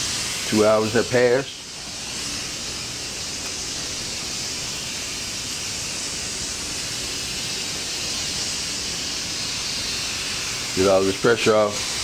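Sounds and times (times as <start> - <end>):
pressure cooker venting steam: 0.0 - 12.0.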